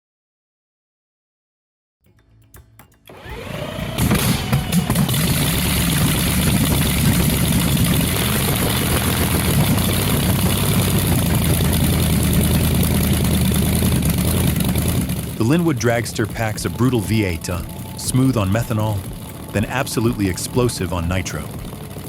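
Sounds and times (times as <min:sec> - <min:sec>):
large engine running: 0:03.1 - 0:22.0.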